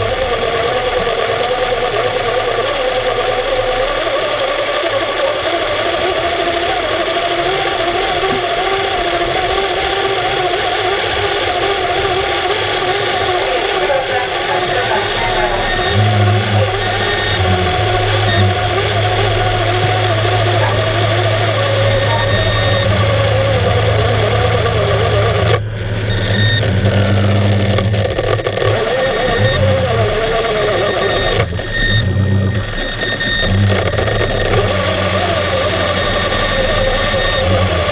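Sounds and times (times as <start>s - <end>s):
high wavering whine: 0.0s - 37.9s
low machine hum underwater: 0.0s - 37.9s.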